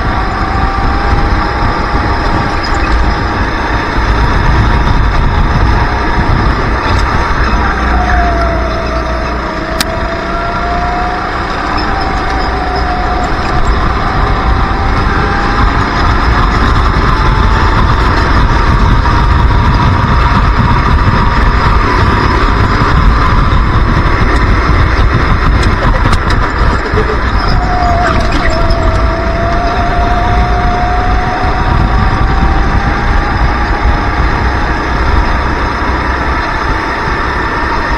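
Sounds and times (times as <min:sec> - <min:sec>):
kart engine revving: 0:00.0 - 0:37.9
wind rumble on microphone: 0:00.0 - 0:37.9.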